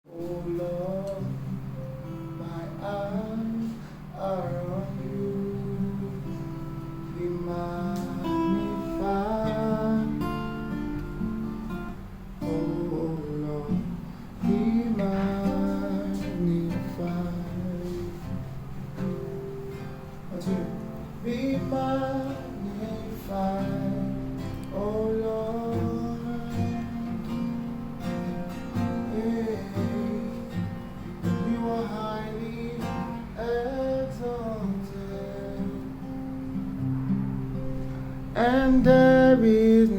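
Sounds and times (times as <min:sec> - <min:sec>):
person singing: 0:00.0 - 0:11.1, 0:12.4 - 0:18.4, 0:20.3 - 0:27.5, 0:28.2 - 0:36.0, 0:38.4 - 0:39.9
acoustic guitar strumming chords: 0:00.0 - 0:39.9.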